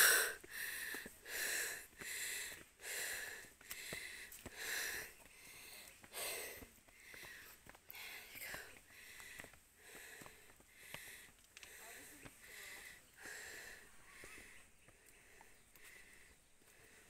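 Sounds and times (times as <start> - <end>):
person panting: 0.0 - 17.0.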